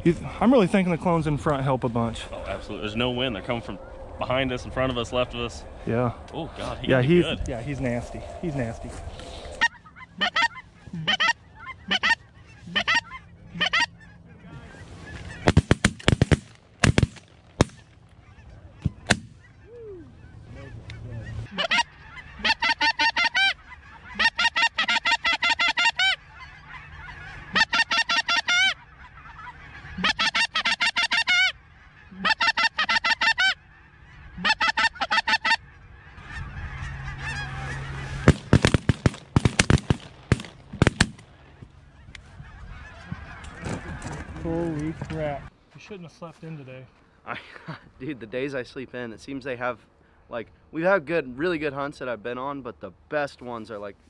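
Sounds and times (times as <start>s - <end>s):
geese honking: 0.4s - 46.6s.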